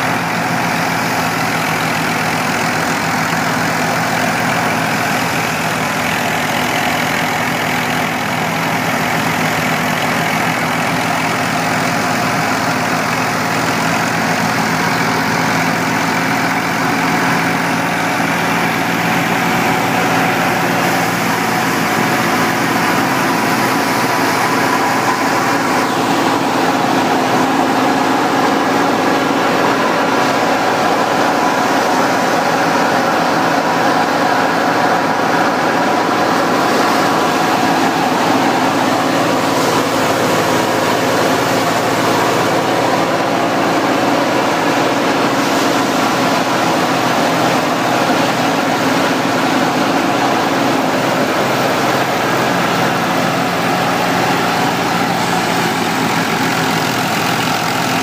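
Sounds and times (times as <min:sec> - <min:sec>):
diesel tractor engine running: 0:00.0 - 0:58.0
thresher running: 0:00.0 - 0:58.0.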